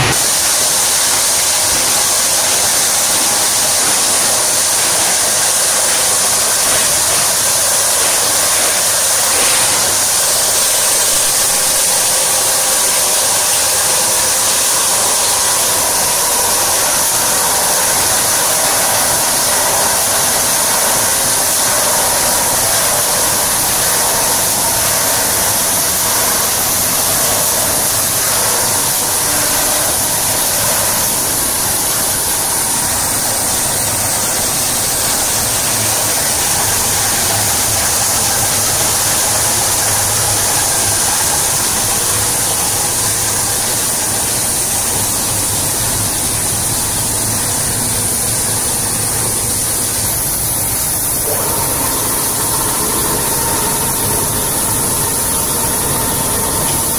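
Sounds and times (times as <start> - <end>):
plastic crusher whirring: 0.0 - 56.9.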